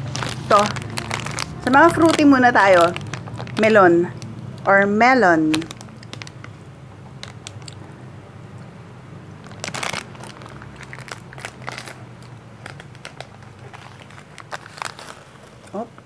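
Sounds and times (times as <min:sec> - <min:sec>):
plastic wrapper crinkling: 0:00.0 - 0:07.8, 0:09.4 - 0:16.0.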